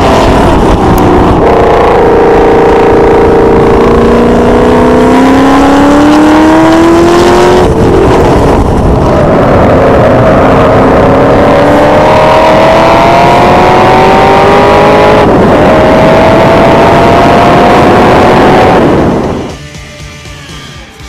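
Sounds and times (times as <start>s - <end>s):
car engine accelerating hard: 0.0s - 19.5s.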